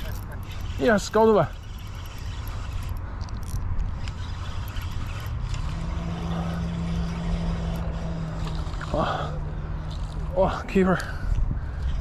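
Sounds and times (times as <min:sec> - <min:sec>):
low motor hum: 0:00.0 - 0:12.0
wind rumble on microphone: 0:01.7 - 0:12.0.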